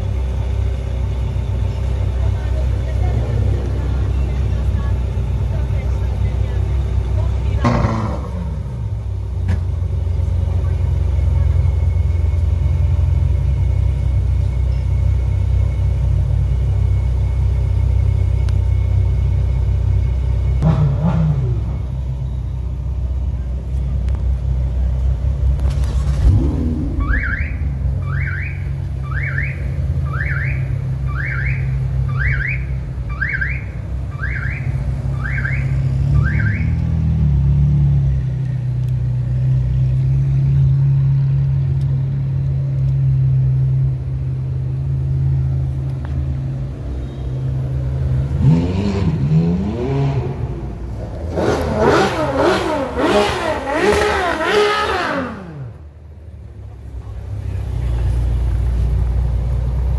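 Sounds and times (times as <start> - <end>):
sports car engines idling and revving: 0.0 - 59.9.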